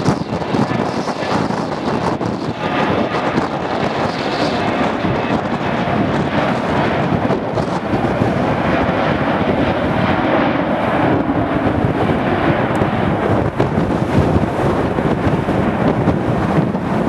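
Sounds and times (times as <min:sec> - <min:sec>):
jet engines rolling on runway: 0:00.0 - 0:17.0
wind buffeting microphone: 0:00.0 - 0:17.0.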